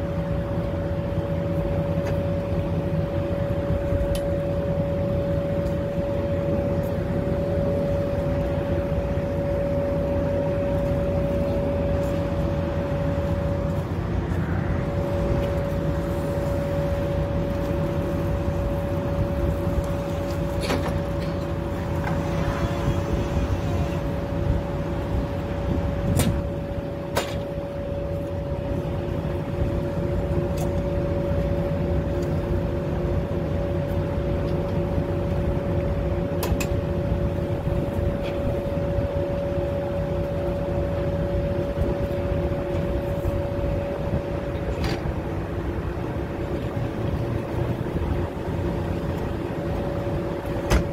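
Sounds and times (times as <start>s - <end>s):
bus cabin low rumble: 0.0s - 50.9s
constant whine: 0.0s - 50.9s.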